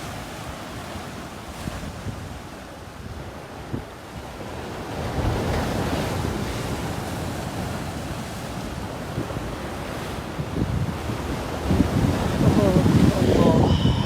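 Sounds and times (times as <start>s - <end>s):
sea waves washing on shore: 0.0s - 14.0s
wind buffeting microphone: 1.6s - 14.0s.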